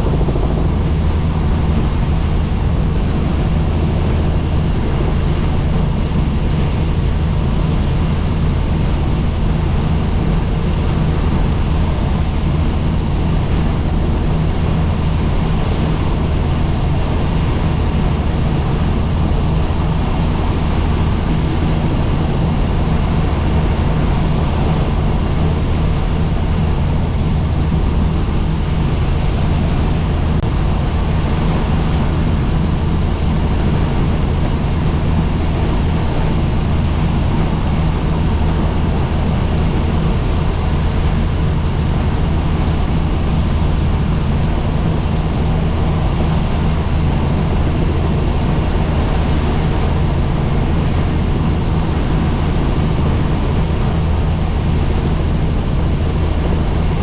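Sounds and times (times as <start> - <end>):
helicopter drone: 0.0 - 57.0.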